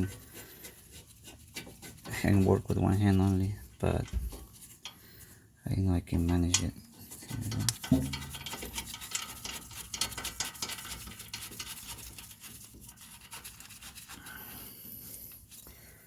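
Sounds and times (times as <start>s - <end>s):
metallic clicks and scrapes: 0.0s - 5.4s, 6.1s - 14.4s.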